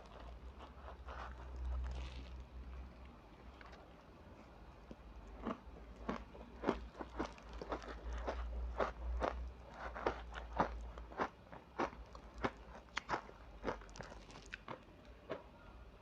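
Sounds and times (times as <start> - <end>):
ice crunching while chewed: 0.0 - 15.4.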